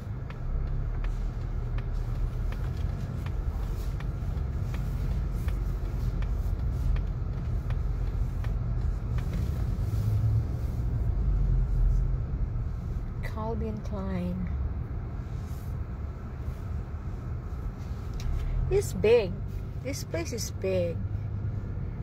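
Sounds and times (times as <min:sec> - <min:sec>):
car engine and tyres rumbling: 0:00.0 - 0:22.0
turn signal ticking: 0:00.0 - 0:22.0.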